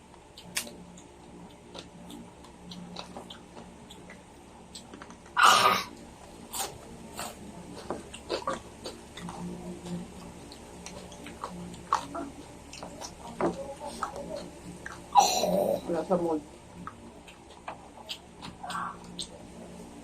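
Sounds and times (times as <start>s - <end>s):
quiet chewing: 0.1s - 20.0s.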